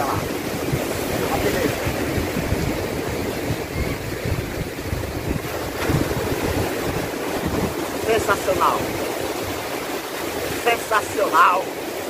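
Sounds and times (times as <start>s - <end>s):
wind buffeting microphone: 0.0s - 10.8s
sea waves surging over rocks: 0.0s - 12.0s.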